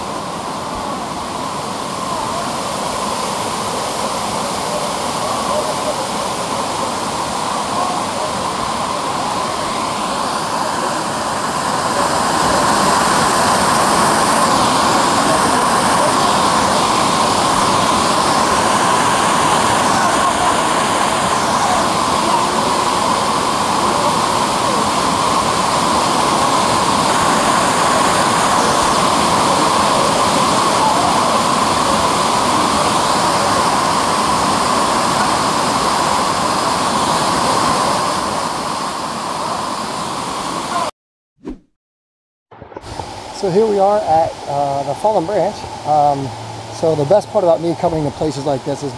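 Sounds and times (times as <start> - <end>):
waterfall roaring: 0.0 - 40.9, 42.8 - 48.9.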